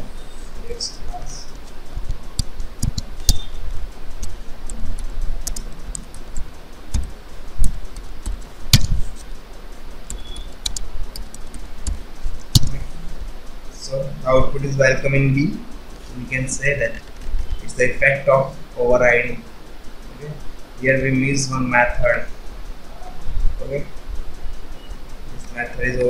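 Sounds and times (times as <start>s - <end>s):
computer keyboard typing: 0.6s - 26.0s.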